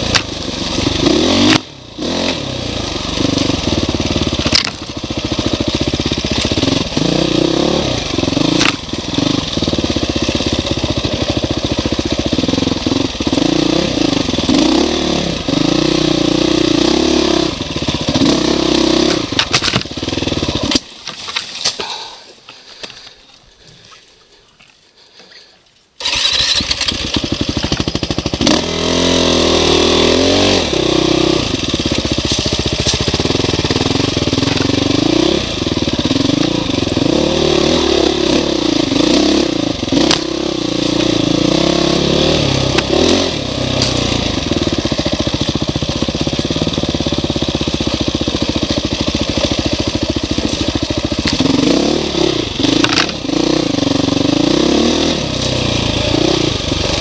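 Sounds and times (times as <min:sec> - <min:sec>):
dirt bike engine revving: 0:00.0 - 0:20.9, 0:26.0 - 0:57.0.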